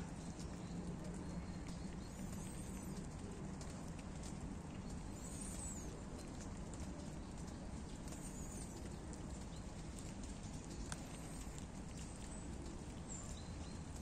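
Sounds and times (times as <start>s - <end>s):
small irregular ticks: 0.0s - 14.0s
steady outdoor hiss: 0.0s - 14.0s.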